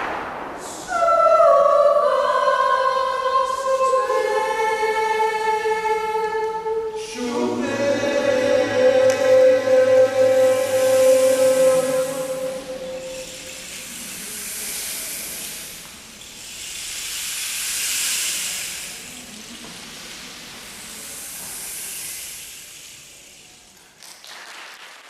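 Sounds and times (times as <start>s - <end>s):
choir making rain-like hiss: 0.0s - 25.0s.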